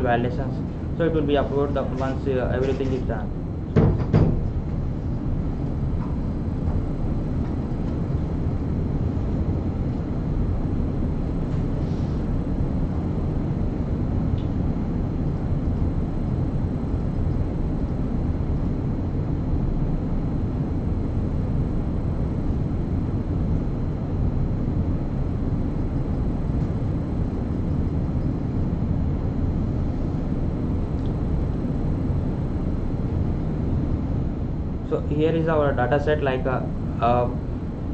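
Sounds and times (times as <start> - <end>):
low rumbling background noise: 0.0 - 37.9.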